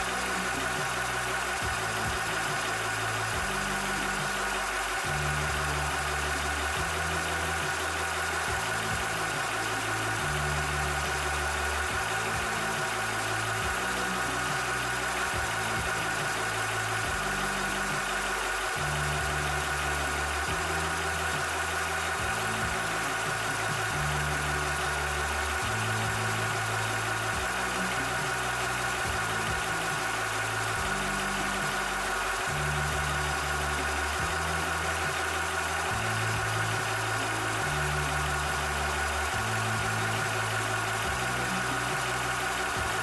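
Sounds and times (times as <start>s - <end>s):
air compressor running: 0.0s - 43.0s
high-pitched whine: 0.0s - 43.0s.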